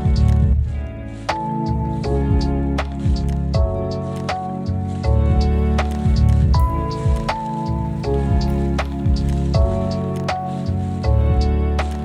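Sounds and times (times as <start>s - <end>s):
lo-fi music with a beat: 0.0s - 12.0s.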